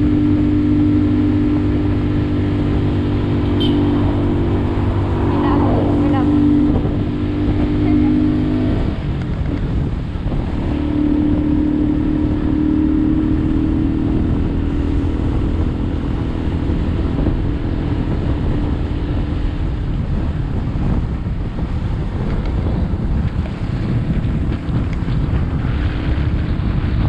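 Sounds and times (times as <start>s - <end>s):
motorbike engine cruising: 0.0s - 27.0s
wind buffeting microphone: 0.0s - 27.0s.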